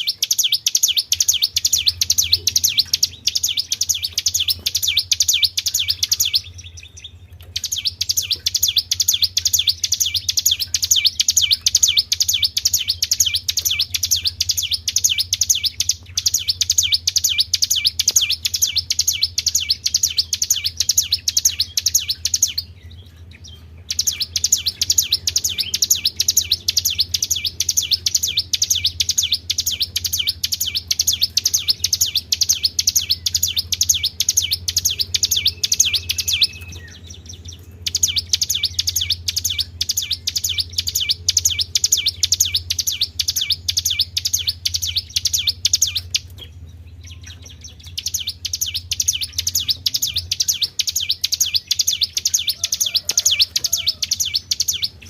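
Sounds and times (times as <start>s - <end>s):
low steady hum: 0.0s - 55.0s
songbird trilling: 0.0s - 55.0s.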